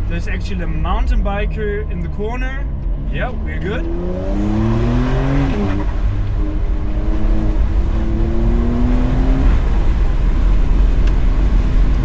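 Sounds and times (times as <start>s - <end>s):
car engine accelerating: 0.0s - 12.0s
road rumble: 0.0s - 12.0s.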